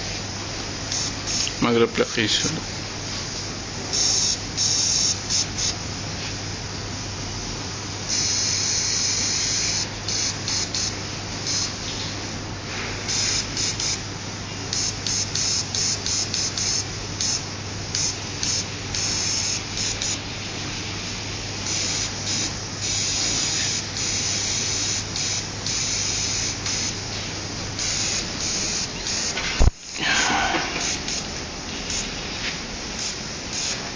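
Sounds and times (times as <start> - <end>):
steady low hum: 0.0 - 33.9
airbrush spraying hiss: 0.9 - 1.6, 3.1 - 6.3, 8.1 - 12.0, 12.7 - 14.1, 14.7 - 33.9.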